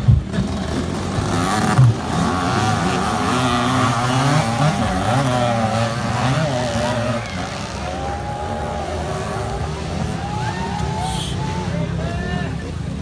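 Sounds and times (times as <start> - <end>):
dirt bike engines racing: 0.0 - 13.0.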